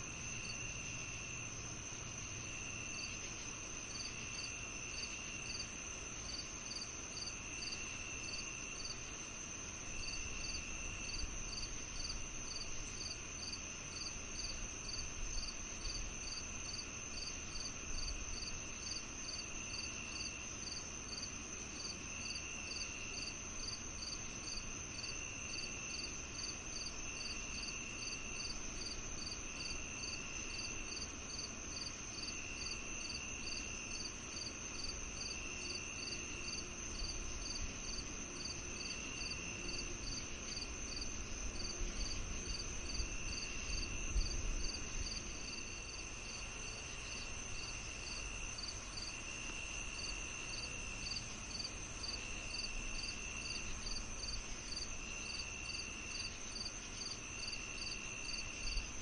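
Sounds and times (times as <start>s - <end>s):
cricket chirping: 0.0s - 59.0s
high insect trill: 0.0s - 59.0s
lower insect trill: 0.0s - 59.0s.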